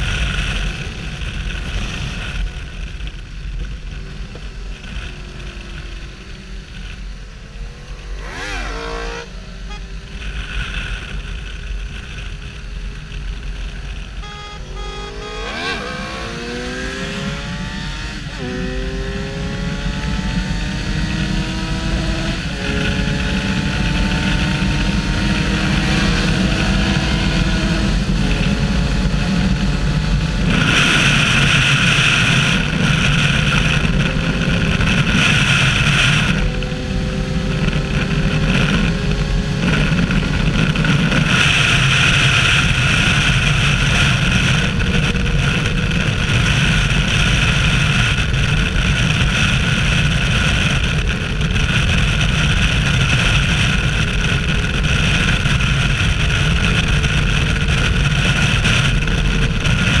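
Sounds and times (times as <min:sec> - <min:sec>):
wind rush on camera: 0:00.0 - 0:14.2, 0:15.4 - 1:00.0
motorcycle engine at speed: 0:00.0 - 1:00.0.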